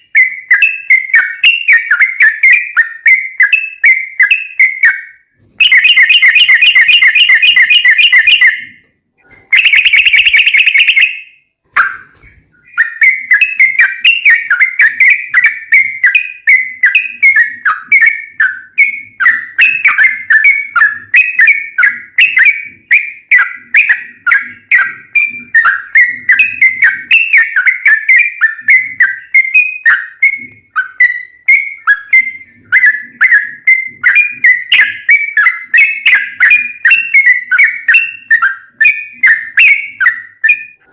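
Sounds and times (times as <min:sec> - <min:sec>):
bulbul singing: 0:00.0 - 0:08.8, 0:09.5 - 0:40.8.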